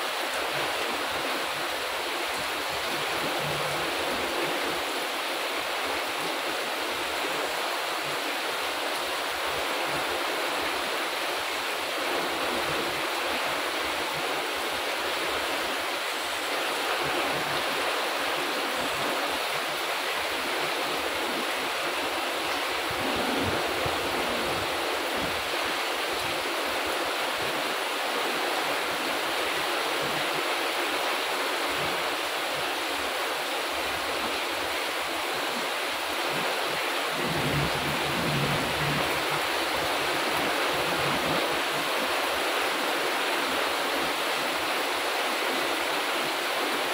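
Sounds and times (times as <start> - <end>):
heavy rain on plants and path: 0.0 - 46.9.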